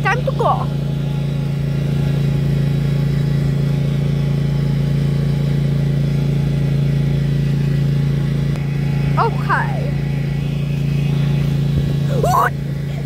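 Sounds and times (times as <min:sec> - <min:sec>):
vehicle motor low hum: 0:00.0 - 0:13.0.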